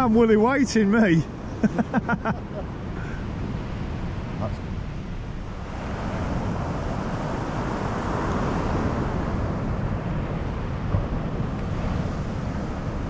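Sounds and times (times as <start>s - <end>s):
surf washing: 0.0s - 13.0s
wind rumbling on microphone: 0.0s - 13.0s.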